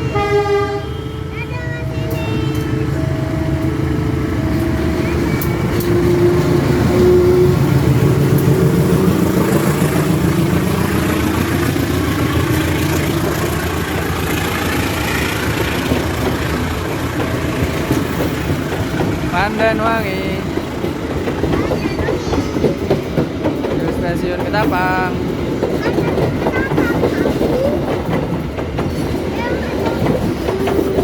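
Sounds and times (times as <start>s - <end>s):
locomotive engine running hard: 0.0s - 31.0s
train rumbling past: 0.0s - 31.0s.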